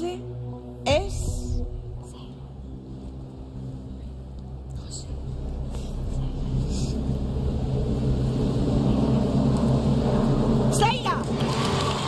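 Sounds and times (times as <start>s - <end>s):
low suspense drone: 0.0s - 12.0s.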